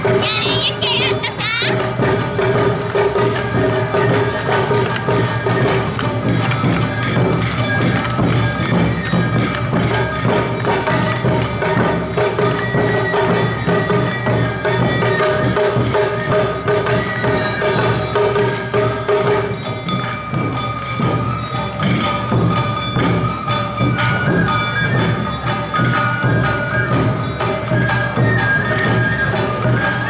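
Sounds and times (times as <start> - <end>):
drums beating: 0.0 - 30.0
gongs clanging: 0.0 - 30.0.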